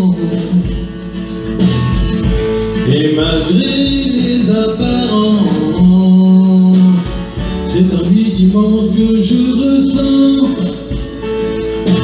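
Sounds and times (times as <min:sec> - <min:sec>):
man singing pop ballad: 0:00.0 - 0:01.3, 0:02.8 - 0:12.0
backing track with guitar: 0:00.0 - 0:12.0.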